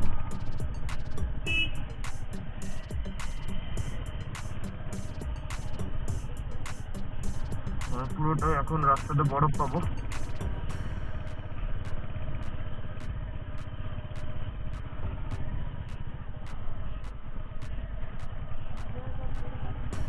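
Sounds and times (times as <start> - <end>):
motorcycle engine low rumble: 0.0 - 20.0.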